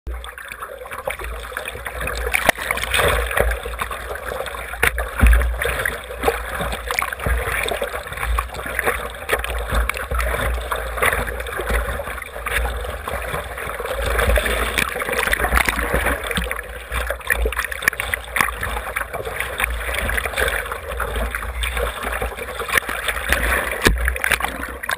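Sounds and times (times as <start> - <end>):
low water rumble: 0.1 - 24.9
water sloshing against surfboard: 0.1 - 24.9.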